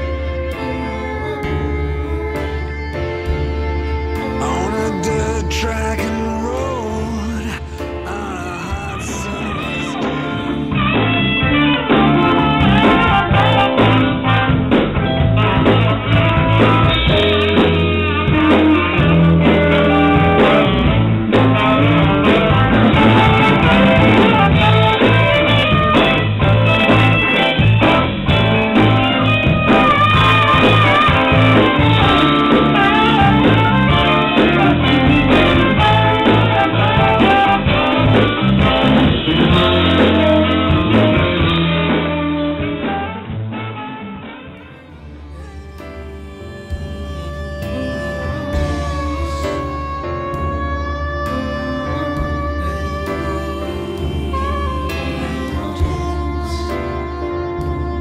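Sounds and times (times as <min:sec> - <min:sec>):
blues band playing live: 0:00.0 - 0:58.0.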